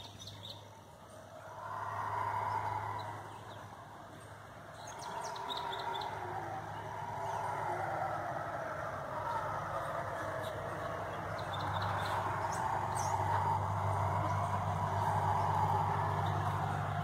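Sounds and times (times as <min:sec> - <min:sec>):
howler monkeys howling: 0:01.1 - 0:17.0.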